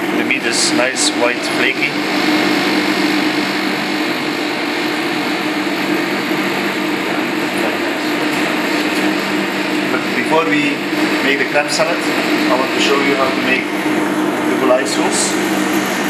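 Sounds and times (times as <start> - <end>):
low two-tone hum: 0.0 - 16.0
ventilation hiss: 0.0 - 16.0.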